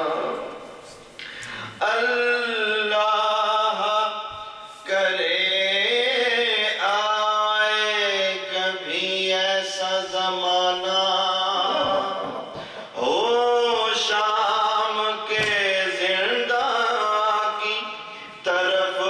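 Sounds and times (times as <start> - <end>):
man chanting a lament: 1.7 - 19.0.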